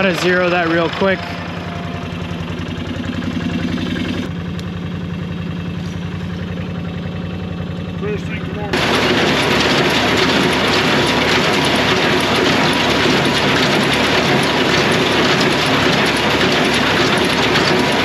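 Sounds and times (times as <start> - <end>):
baler rattling: 0.0 - 4.3, 5.8 - 18.0.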